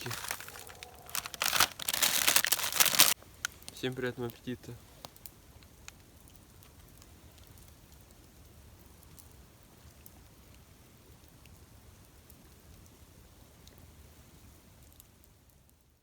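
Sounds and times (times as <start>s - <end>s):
campfire crackling: 0.0s - 15.7s.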